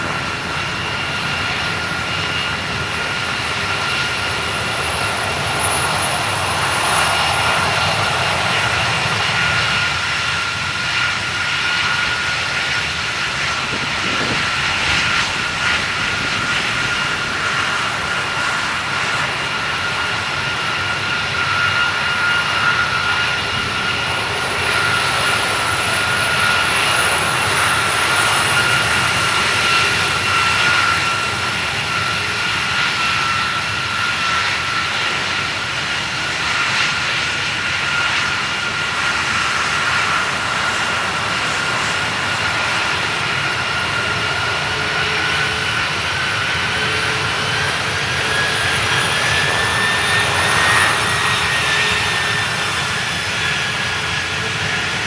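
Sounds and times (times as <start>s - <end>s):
continuous engine rumble: 0.0s - 55.0s
jet engines whining while taxiing: 0.0s - 55.0s.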